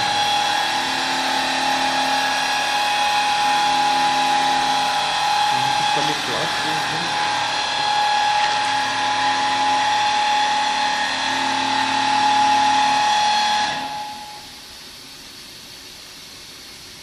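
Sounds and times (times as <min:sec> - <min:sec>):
machine motors whining: 0:00.0 - 0:14.4.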